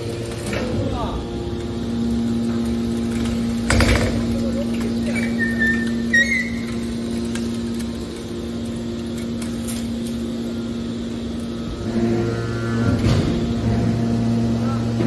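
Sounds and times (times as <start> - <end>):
deeper machine drone: 0.0 - 15.0
hydraulic baler machine hum: 0.0 - 15.0.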